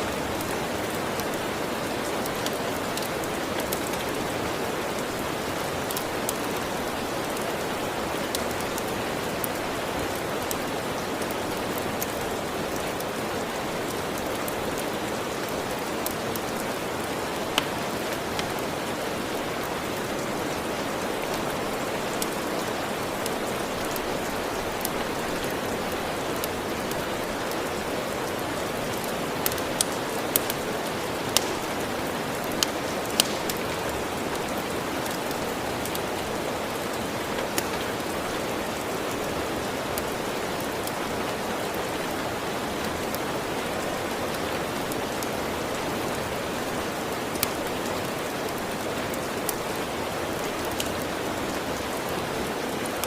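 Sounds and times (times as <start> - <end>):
steady rain hissing: 0.0 - 53.0
wood fire crackling: 0.0 - 53.0.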